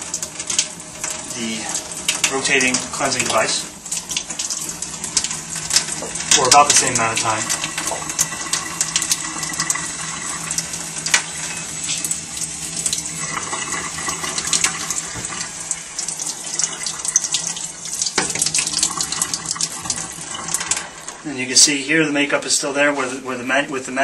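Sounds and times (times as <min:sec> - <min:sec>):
faucet water running into sink: 0:00.0 - 0:22.1.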